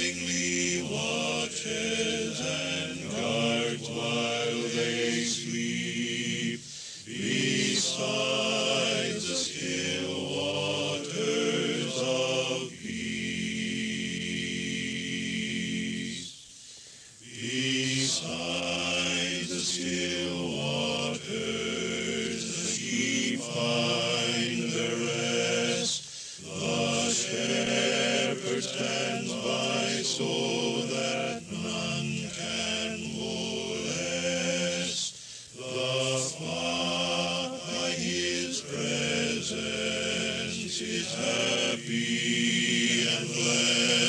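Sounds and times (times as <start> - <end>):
man singing in harmony: 0.0 - 16.4, 17.2 - 44.0.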